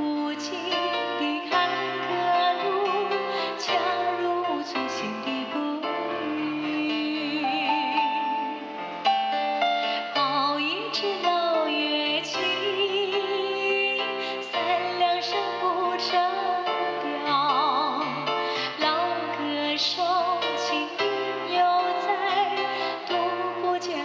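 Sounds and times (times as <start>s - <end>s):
woman singing with vibrato: 0.0s - 9.1s, 10.0s - 24.0s
electronic keyboard: 0.0s - 24.0s.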